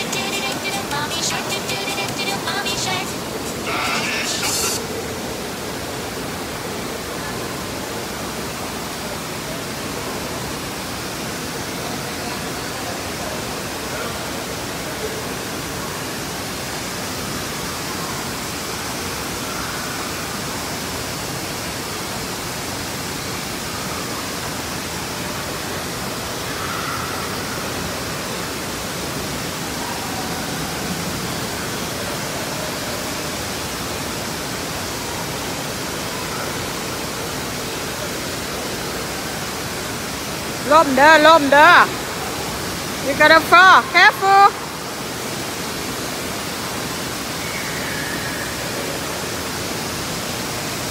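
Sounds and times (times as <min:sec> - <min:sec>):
fountain water rushing: 0:00.0 - 0:50.9.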